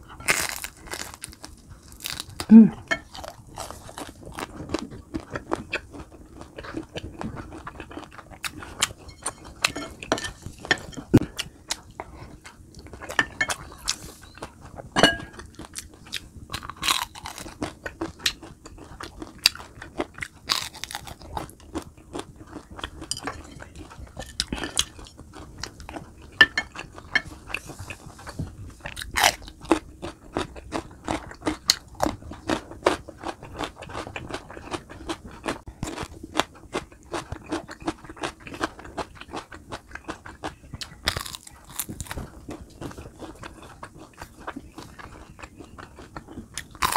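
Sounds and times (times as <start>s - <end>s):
person chewing crunchy fried food: 0.0s - 46.9s.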